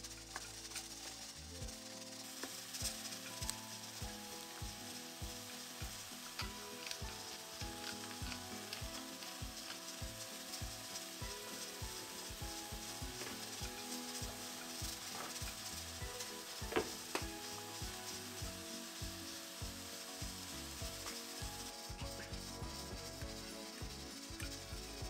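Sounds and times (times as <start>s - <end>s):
food sizzling in a pan: 0.0s - 25.0s
utensil working food: 0.0s - 25.0s.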